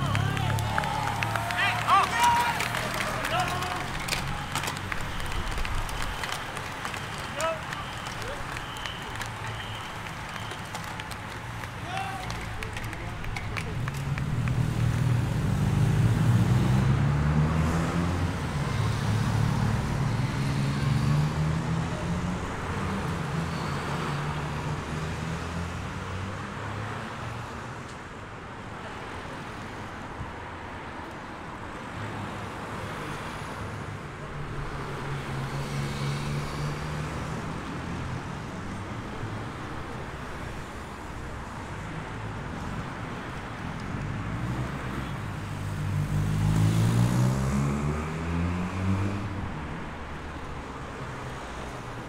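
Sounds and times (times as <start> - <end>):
cars driving past: 0.0 - 27.5, 34.4 - 52.0
road noise: 0.0 - 52.0.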